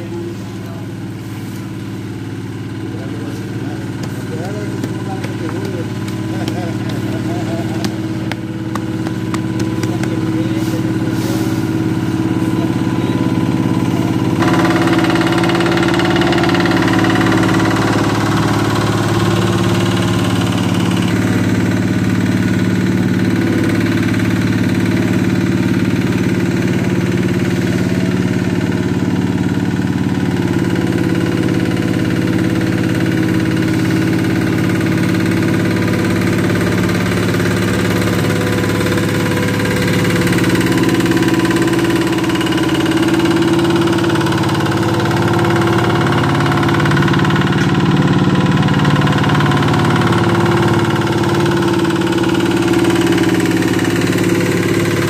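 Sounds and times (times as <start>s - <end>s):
road roller engine running: 0.0s - 55.0s.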